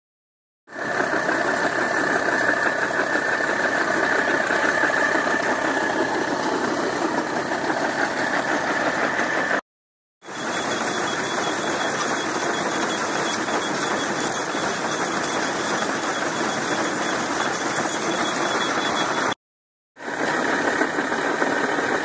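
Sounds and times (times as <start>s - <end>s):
tractor engine running under load: 0.7s - 9.6s, 10.3s - 19.3s, 20.0s - 22.0s.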